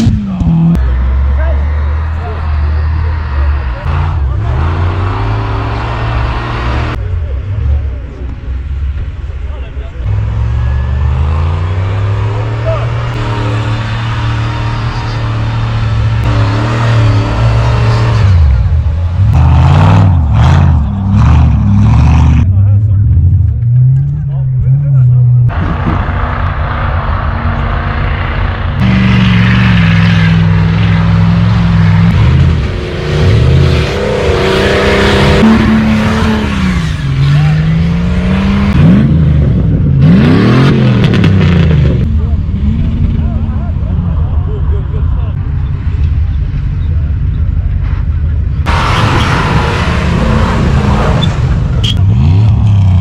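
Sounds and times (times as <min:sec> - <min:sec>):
vehicle engine revving: 0:00.0 - 0:53.0.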